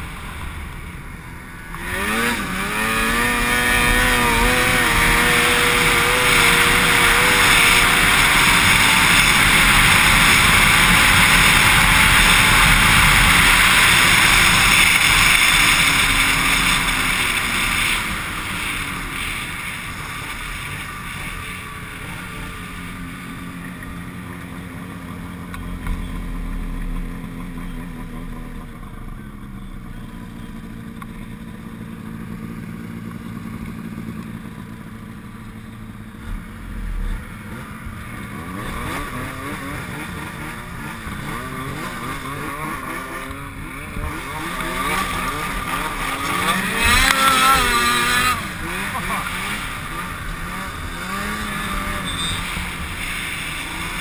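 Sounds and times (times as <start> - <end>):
snowmobile engines idling and revving: 0.0 - 54.0.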